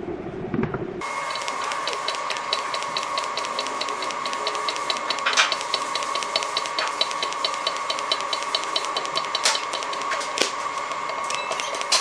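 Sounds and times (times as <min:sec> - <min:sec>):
welding arc buzzing and ticking: 0:01.0 - 0:12.0
welding arc crackle: 0:01.0 - 0:12.0.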